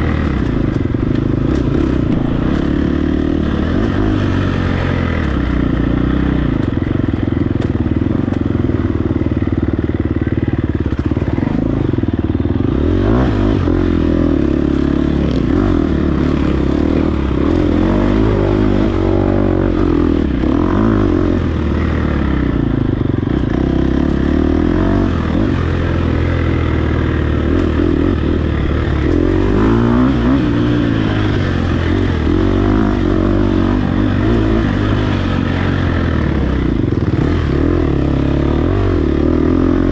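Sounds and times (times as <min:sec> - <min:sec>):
dirt bike engine revving: 0:00.0 - 0:09.6, 0:10.4 - 0:39.9.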